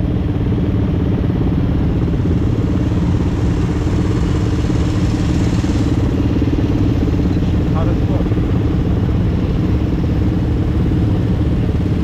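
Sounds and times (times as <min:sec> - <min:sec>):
small engine running: 0:00.2 - 0:12.0.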